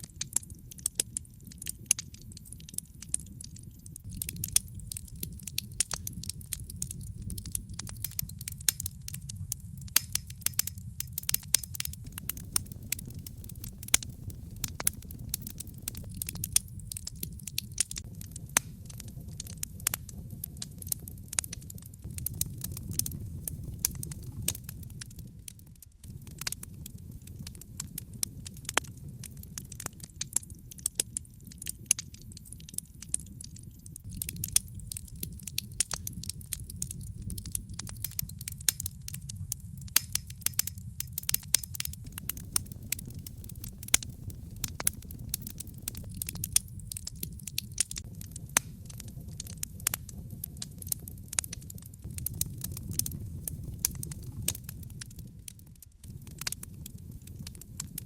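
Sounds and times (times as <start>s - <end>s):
burning logs crackling and popping: 0.0s - 58.0s
low rumble of flames: 0.0s - 58.0s.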